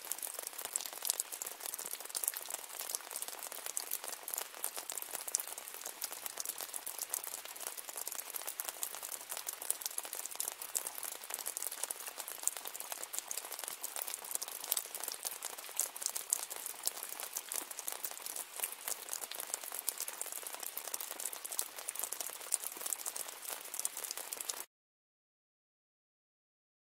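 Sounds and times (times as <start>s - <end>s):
steady rain: 0.0s - 24.7s.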